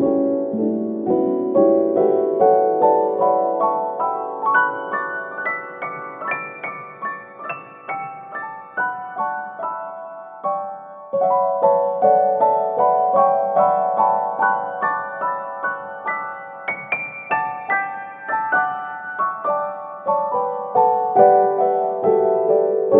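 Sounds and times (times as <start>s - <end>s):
gentle piano melody: 0.0s - 22.9s.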